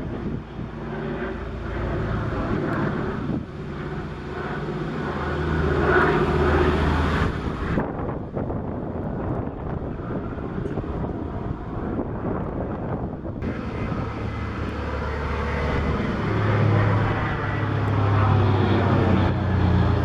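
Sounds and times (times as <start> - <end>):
propeller plane flying past: 0.0 - 20.0.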